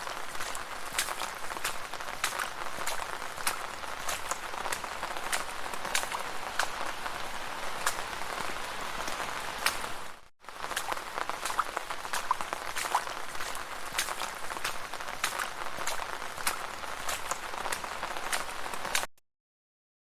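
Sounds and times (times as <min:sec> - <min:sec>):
rain hiss on street: 0:00.0 - 0:19.1
raindrops ticking close by: 0:00.0 - 0:19.1.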